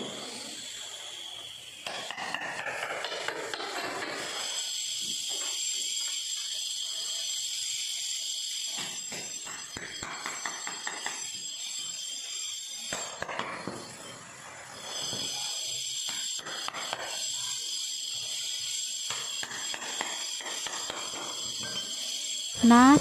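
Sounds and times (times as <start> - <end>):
steady high-pitched hiss: 0.0 - 2.7, 3.8 - 23.0.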